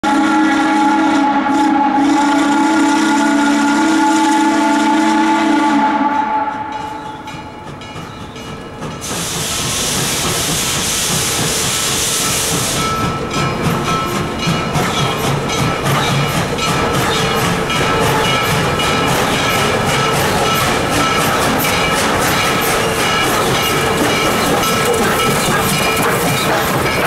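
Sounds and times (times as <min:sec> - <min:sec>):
steam locomotive chime whistle: 0:00.0 - 0:27.0
steam hissing: 0:00.2 - 0:27.0.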